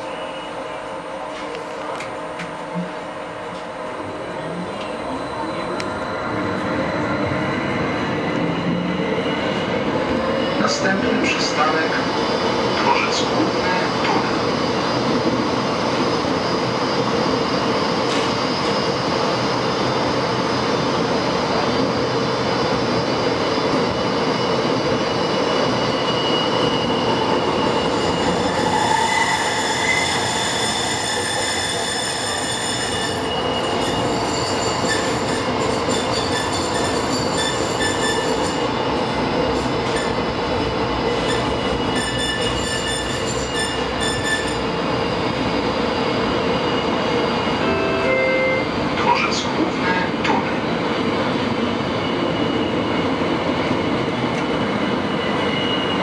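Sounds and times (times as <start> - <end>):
tram wheels rumbling on rails: 1.1 - 56.0.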